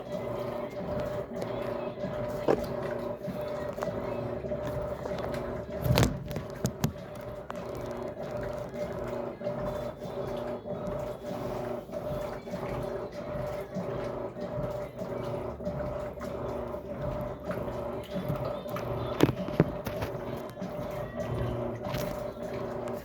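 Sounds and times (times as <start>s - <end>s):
washing machine motor hum: 0.0s - 23.0s
water sloshing: 0.0s - 23.0s.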